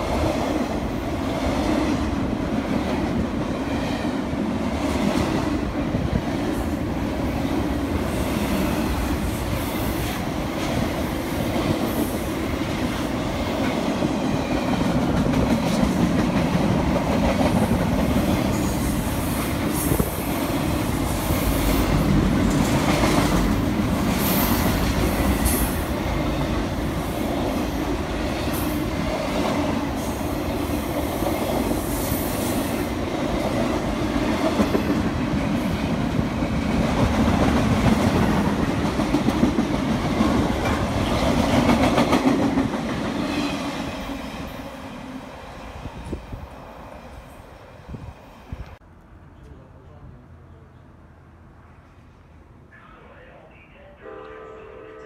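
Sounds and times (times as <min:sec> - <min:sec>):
train wheels rumbling on rail: 0:00.0 - 0:48.8.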